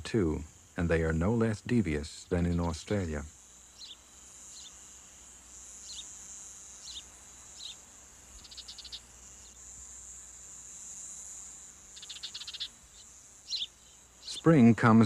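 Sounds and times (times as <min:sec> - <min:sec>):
insect chirps: 0:00.0 - 0:15.0
insects trilling: 0:00.0 - 0:15.0
rapid insect pulses: 0:00.0 - 0:15.0.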